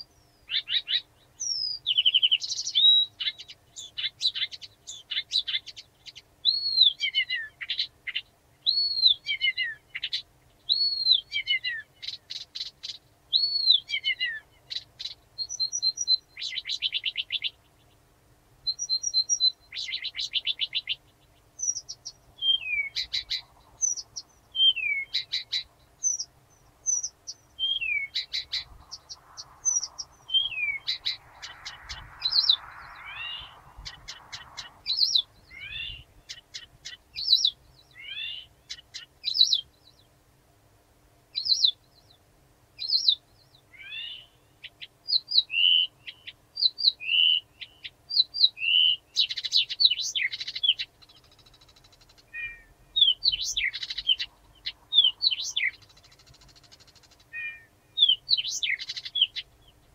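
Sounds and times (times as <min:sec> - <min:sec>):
warbler singing: 0:00.0 - 0:40.2, 0:41.3 - 0:59.9.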